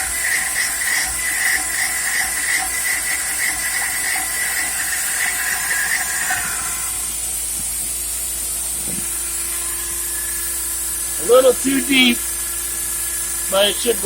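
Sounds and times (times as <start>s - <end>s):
pulsing whine of bit cutting: 0.0s - 14.0s
router spindle hissing: 0.0s - 14.0s.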